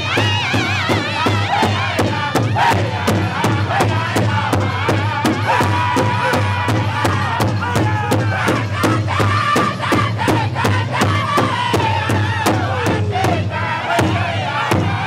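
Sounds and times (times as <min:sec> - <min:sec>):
group singing loudly in unison: 0:00.0 - 0:15.0
large hide drum beats: 0:00.0 - 0:15.0.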